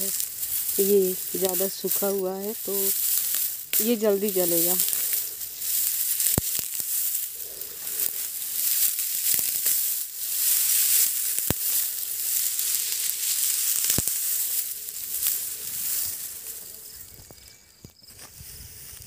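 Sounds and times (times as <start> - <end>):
dry plant stalks rustling: 0.0 - 19.0.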